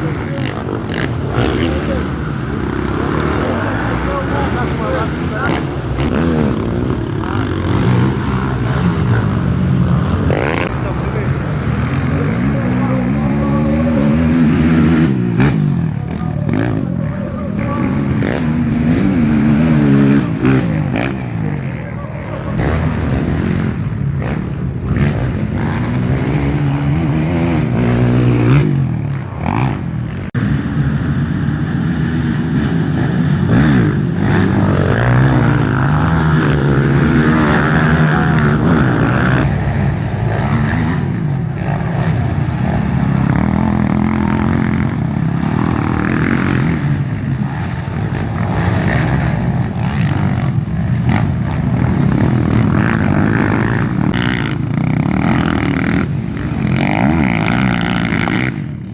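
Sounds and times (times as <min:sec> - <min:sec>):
quad engines revving: 0:00.0 - 0:58.9.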